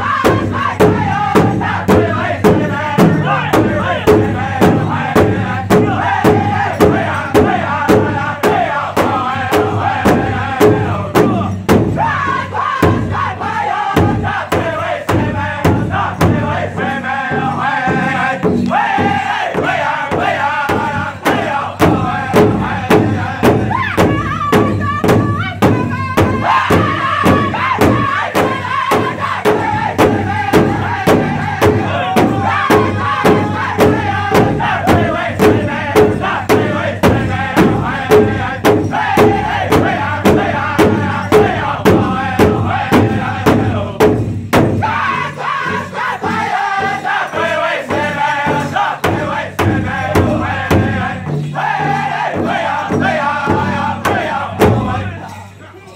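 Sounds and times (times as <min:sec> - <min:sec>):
big drum beats: 0:00.0 - 0:55.6
group singing in unison: 0:00.0 - 0:55.6.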